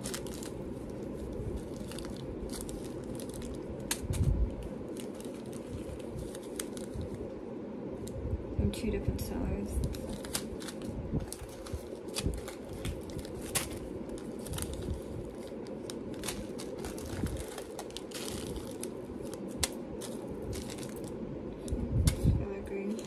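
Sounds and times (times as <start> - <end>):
plastic bags crinkling: 0.0 - 7.3, 9.8 - 23.0
low background hum: 0.0 - 23.0.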